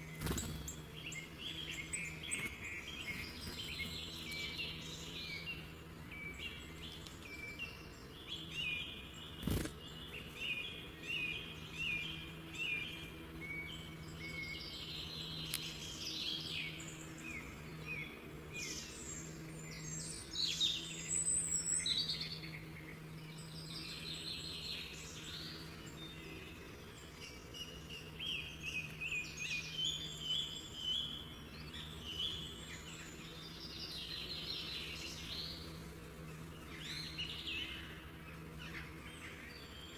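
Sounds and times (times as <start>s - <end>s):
birds singing and chirping: 0.0s - 39.9s
steady low hum: 0.0s - 39.9s.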